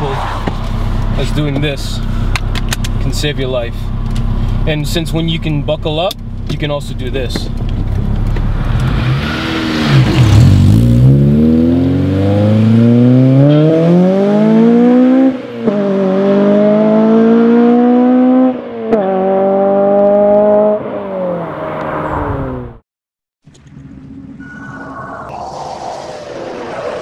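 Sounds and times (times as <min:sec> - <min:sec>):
car engine accelerating: 0:00.0 - 0:22.8.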